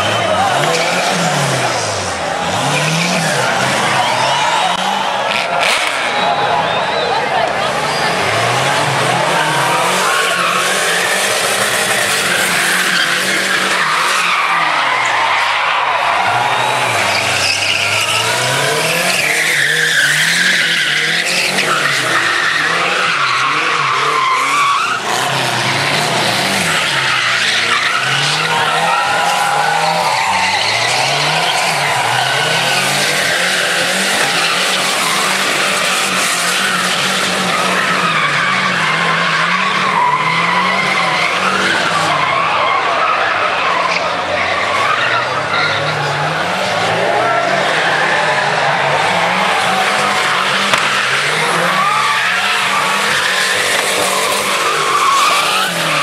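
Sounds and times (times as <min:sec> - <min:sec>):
car engines revving: 0:00.0 - 0:56.0
tyres squealing: 0:00.0 - 0:56.0.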